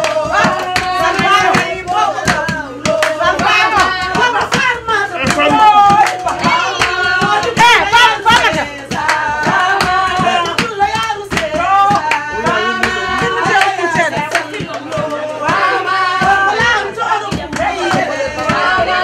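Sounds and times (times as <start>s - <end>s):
drumming: 0.0s - 19.0s
hand-clapping: 0.0s - 19.0s
person singing: 0.2s - 8.7s, 11.4s - 19.0s.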